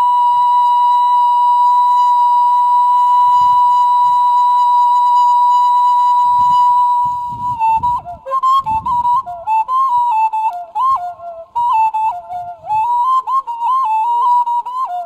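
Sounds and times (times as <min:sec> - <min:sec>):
flute holding long note: 0:00.0 - 0:15.0.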